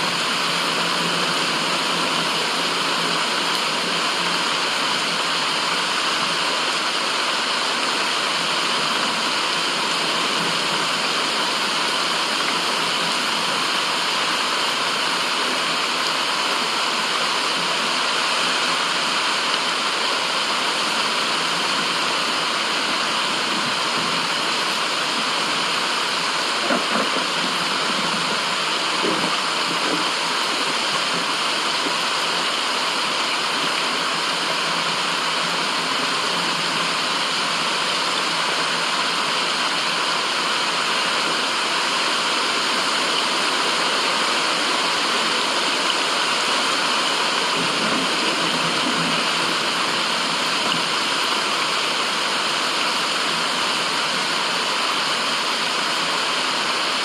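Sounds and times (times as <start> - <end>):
rushing water: 0.0 - 57.0
water gurgles: 0.0 - 57.0.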